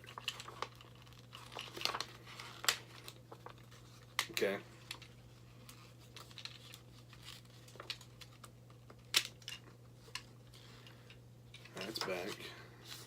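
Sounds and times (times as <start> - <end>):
plastic toy parts clicking and creaking: 0.0 - 12.4.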